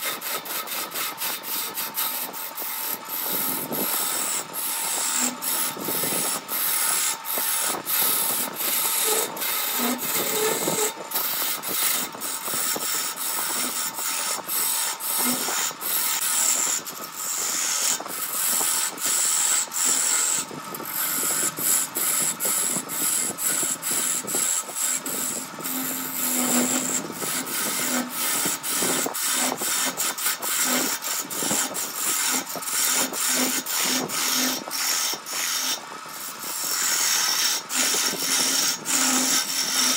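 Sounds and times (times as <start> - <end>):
gouge scraping wood: 0.0 - 39.9
lathe whine: 0.0 - 39.9.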